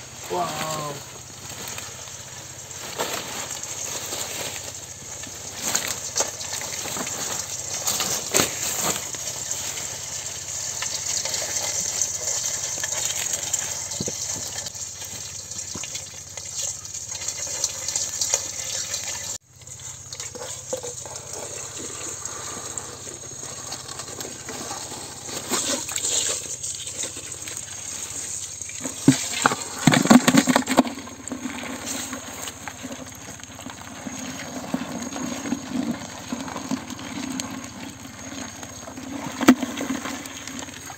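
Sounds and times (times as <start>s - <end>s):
water splashing and scraping: 0.0s - 40.9s.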